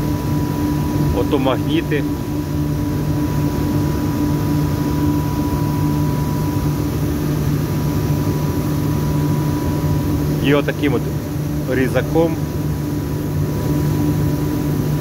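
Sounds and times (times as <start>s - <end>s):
industrial machinery hum: 0.0s - 15.0s.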